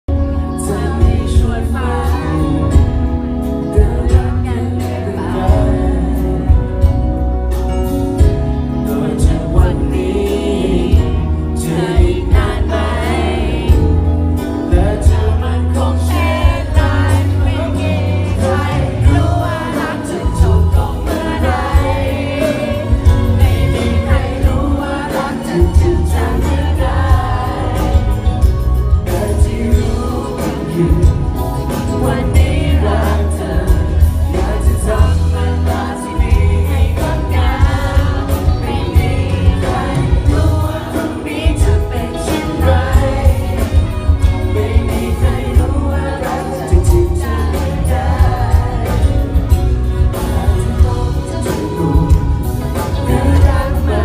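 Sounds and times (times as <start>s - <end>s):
pop music with heavy bass: 0.1s - 54.0s.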